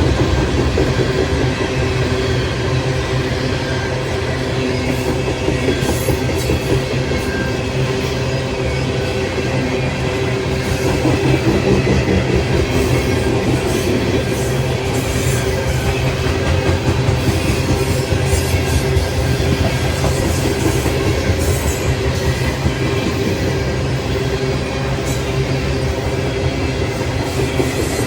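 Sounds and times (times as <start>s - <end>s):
train cars rolling on track: 0.0s - 28.0s.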